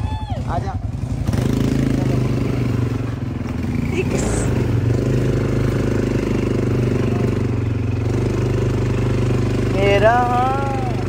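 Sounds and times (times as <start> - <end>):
quad bike engine running: 0.0 - 11.0.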